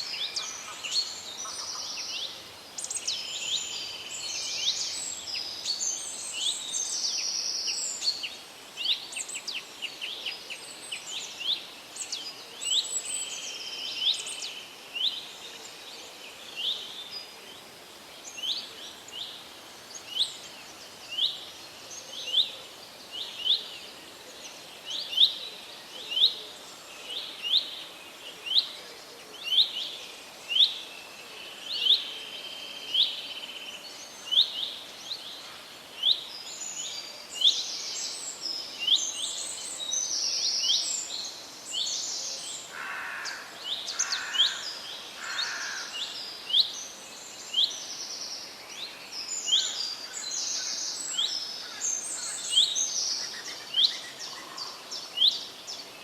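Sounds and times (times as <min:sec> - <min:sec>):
forest ambience hiss: 0:00.0 - 0:56.0.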